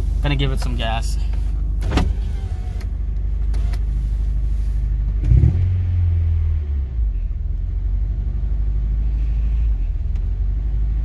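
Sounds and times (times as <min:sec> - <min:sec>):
car engine idling unevenly: 0:00.0 - 0:11.0.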